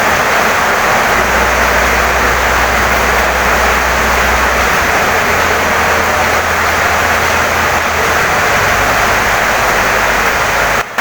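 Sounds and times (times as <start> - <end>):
low rumble: 0.0 - 10.8
heavy rain on wooden house: 0.0 - 11.0.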